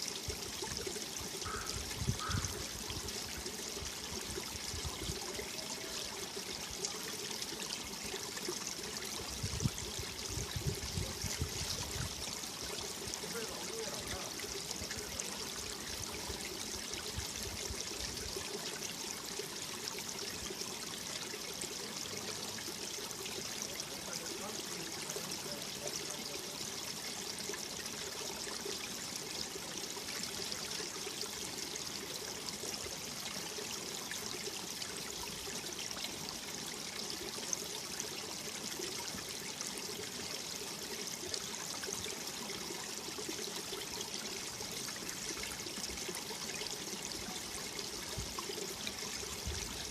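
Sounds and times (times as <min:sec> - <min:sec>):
mountain stream flowing: 0:00.0 - 0:49.9.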